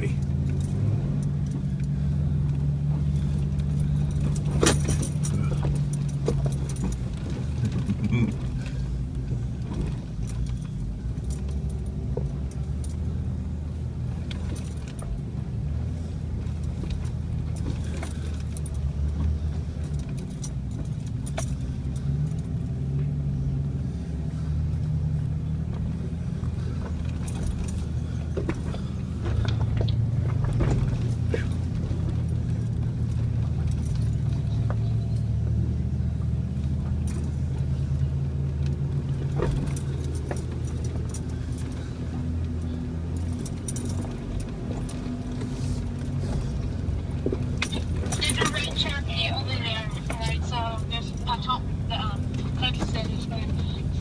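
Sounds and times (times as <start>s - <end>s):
vehicle engine running low: 0.0s - 54.0s.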